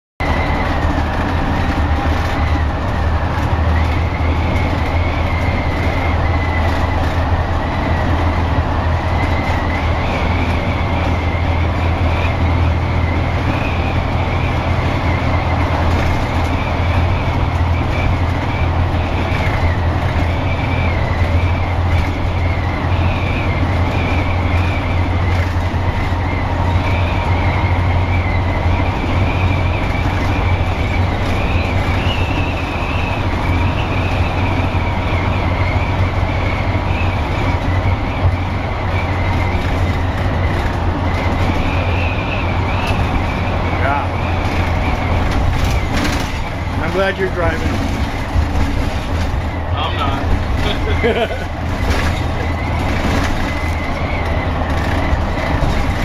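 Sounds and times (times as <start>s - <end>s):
bus engine drone and road noise: 0.2s - 56.0s.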